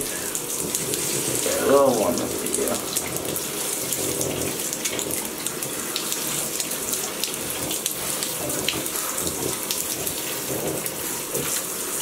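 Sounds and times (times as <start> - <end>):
shower spray hissing: 0.0 - 12.0
water splashing in bathtub: 0.0 - 12.0.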